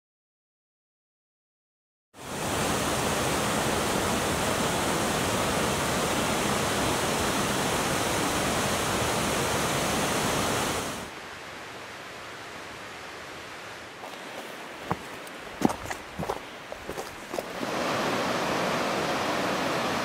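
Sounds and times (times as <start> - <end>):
rushing water: 2.2 - 20.0.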